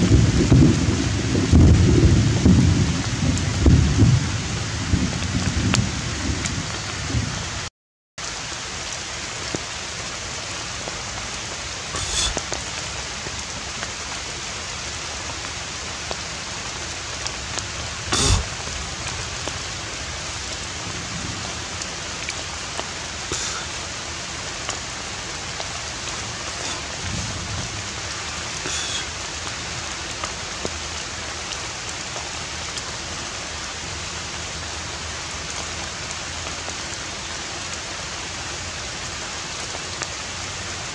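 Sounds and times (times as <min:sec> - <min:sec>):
steady hiss of rain: 0:00.0 - 0:40.9.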